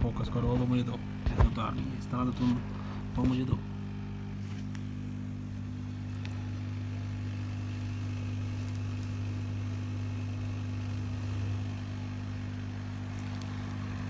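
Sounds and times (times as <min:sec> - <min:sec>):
equipment humming: 0:00.0 - 0:14.0.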